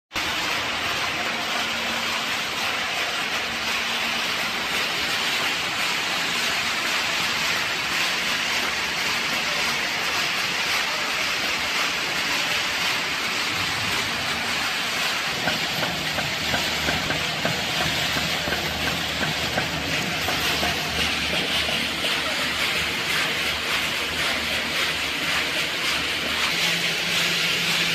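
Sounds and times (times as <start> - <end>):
factory machinery hiss and clatter: 0.2 - 27.9.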